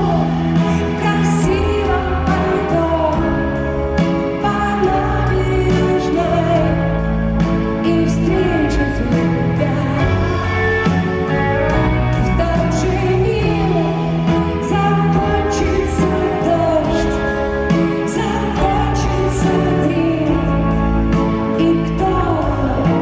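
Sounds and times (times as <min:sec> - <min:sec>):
female lead vocal: 0:00.0 - 0:23.0
live rock band: 0:00.0 - 0:23.0.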